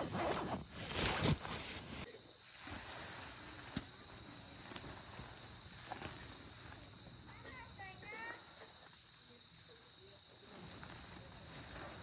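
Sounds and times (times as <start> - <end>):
tent fabric rustling: 0.0 - 9.0, 10.4 - 12.0
night insects trilling: 0.0 - 12.0.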